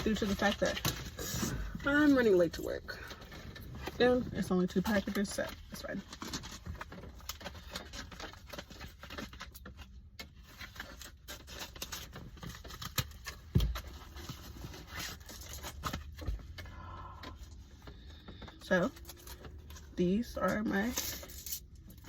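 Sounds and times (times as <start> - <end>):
packaging rustling and scraping: 0.0 - 16.8, 17.4 - 22.0.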